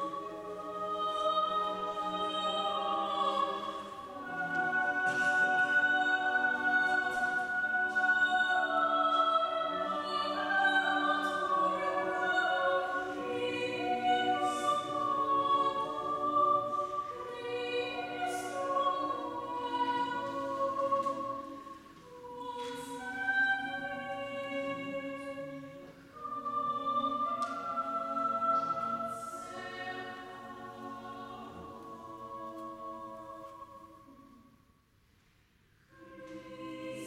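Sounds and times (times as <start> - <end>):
choir singing a hymn: 0.0 - 34.5, 35.9 - 37.0.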